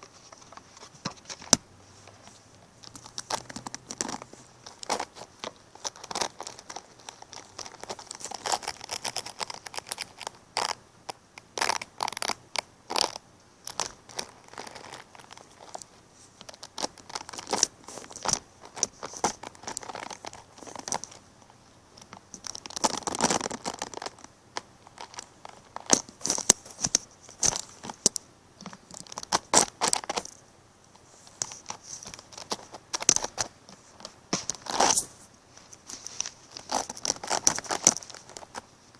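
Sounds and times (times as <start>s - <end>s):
crinkling and crackling: 0.0s - 38.9s.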